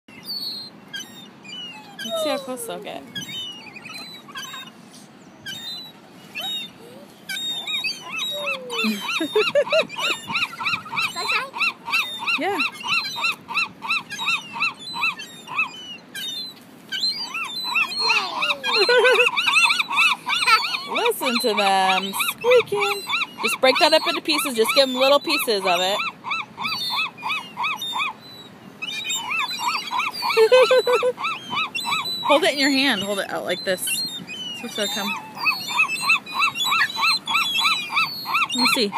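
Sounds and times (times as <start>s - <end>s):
gulls calling: 0.1s - 38.9s.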